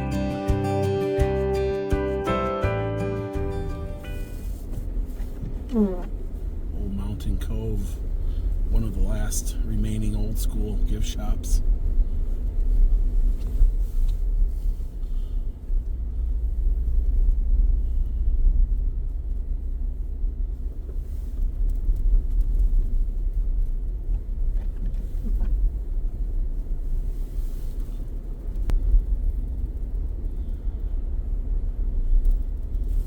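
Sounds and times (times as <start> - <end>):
car cabin driving rumble: 0.0 - 33.0.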